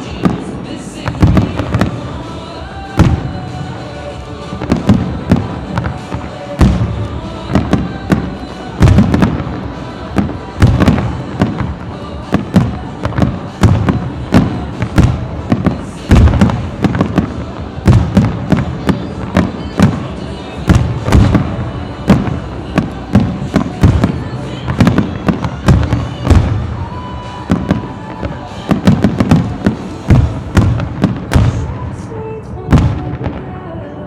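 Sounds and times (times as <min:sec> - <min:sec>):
fireworks bangs and booms: 0:00.0 - 0:33.6
music: 0:00.0 - 0:34.0.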